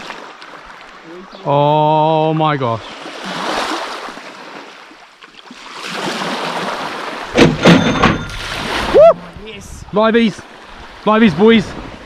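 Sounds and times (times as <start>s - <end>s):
seawater washing at shoreline: 0.0s - 12.0s.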